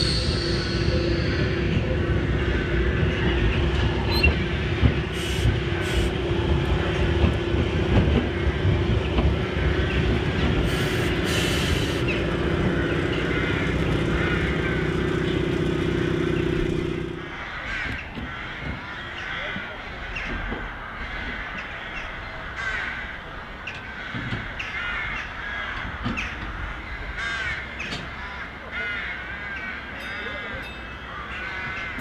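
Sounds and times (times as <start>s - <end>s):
tram electric hum: 0.0s - 32.0s
wheels rattling on rails: 0.0s - 32.0s.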